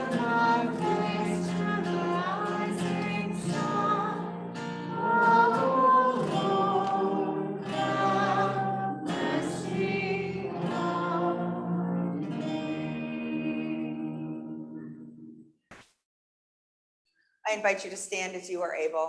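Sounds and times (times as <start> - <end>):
choir singing: 0.0 - 15.4.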